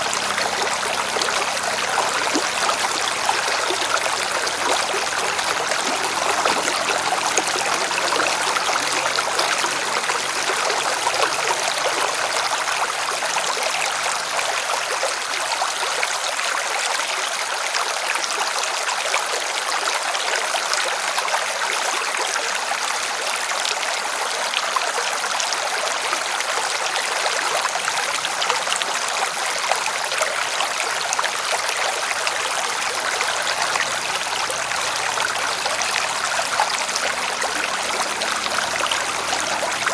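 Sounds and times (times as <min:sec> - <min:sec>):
river water rushing over rocks: 0:00.0 - 0:18.0, 0:25.3 - 0:39.9.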